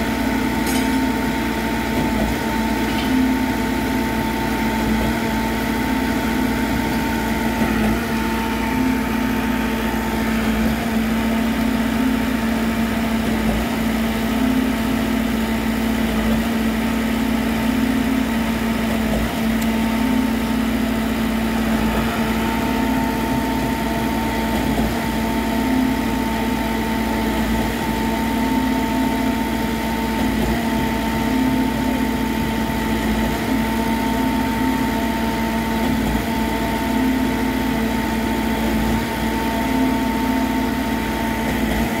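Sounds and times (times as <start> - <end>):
diesel concrete pump running: 0.0 - 42.0.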